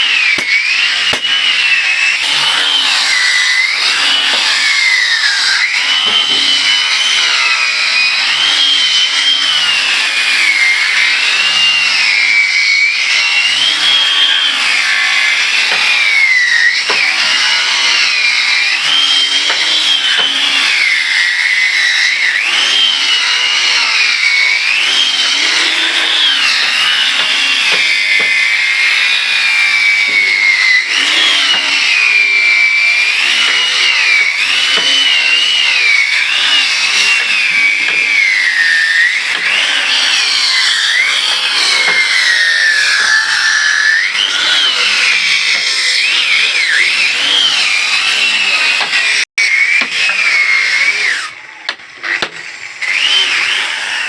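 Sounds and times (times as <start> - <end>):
power tool motor whine: 0.0 - 54.0
wood cutting rasp: 0.0 - 54.0.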